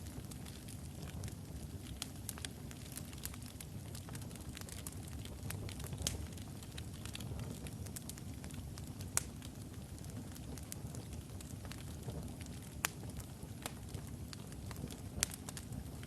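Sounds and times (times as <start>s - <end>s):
logs burning with crackles: 0.0s - 16.0s.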